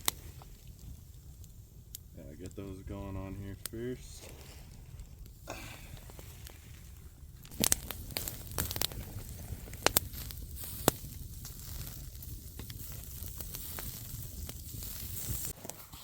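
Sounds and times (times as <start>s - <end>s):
skewers sizzling on a grill: 0.0s - 15.6s
sharp pops and crackles: 0.0s - 16.0s.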